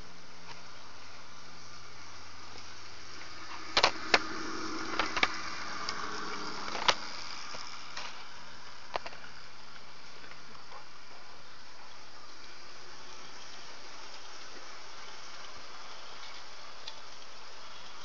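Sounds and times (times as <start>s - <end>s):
model train running: 0.0s - 18.0s
wheels clicking on track: 0.0s - 18.0s.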